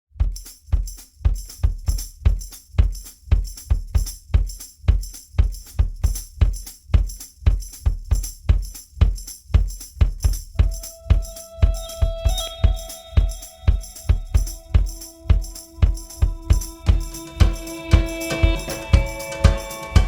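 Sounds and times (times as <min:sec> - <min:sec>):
bass drum beat: 0:00.1 - 0:20.0
tambourine jingling: 0:00.2 - 0:20.0.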